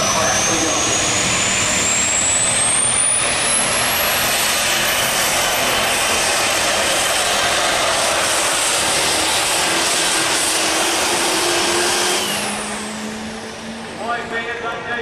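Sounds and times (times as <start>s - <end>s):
diesel truck engine at full throttle: 0.0s - 15.0s
turbo whine: 0.0s - 15.0s.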